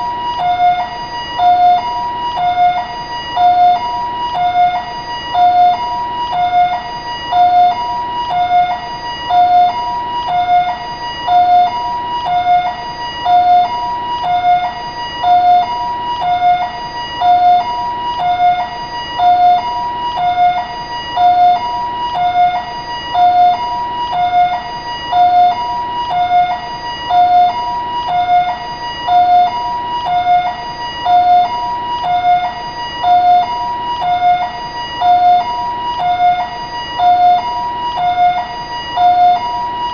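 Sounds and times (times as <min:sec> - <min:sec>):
two-tone ambulance siren: 0:00.0 - 0:39.9.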